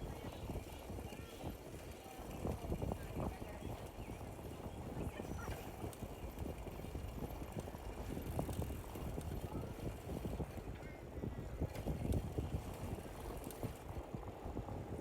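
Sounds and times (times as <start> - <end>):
bicycle riding rumble: 0.0 - 15.0.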